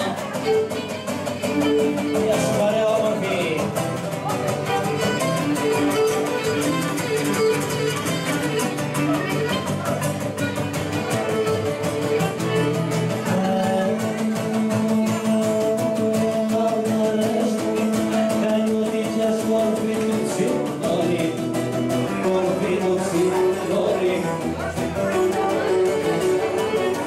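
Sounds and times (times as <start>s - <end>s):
strummed guitars: 0.0s - 27.0s.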